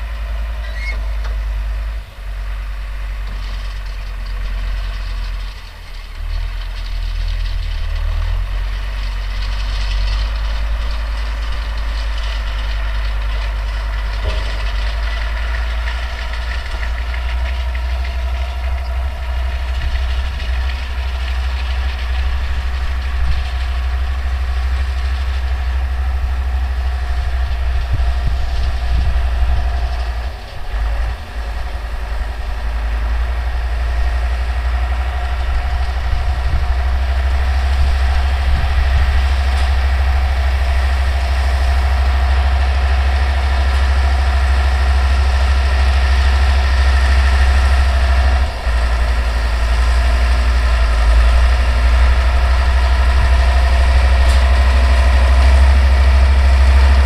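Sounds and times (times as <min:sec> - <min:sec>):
tractor diesel engine running: 0:00.0 - 0:57.0
baler machinery clattering: 0:03.2 - 0:57.0.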